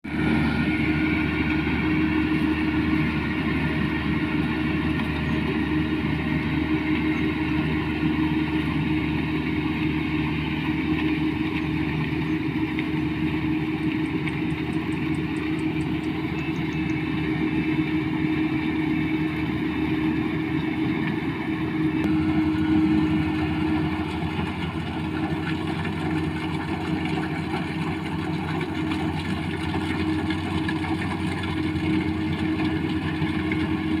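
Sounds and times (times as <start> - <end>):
combine harvester running: 0.1 - 34.0.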